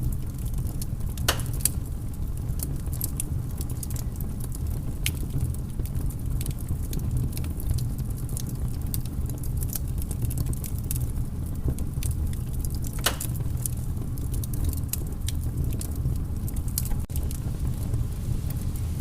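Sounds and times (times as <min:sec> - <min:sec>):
low rumble of fire: 0:00.0 - 0:19.0
wood fire pops and snaps: 0:00.0 - 0:19.0.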